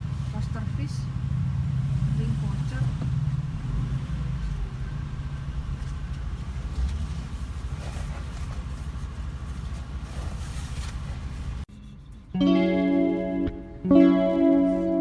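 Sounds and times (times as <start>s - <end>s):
moving vehicle low rumble: 0.0s - 12.4s.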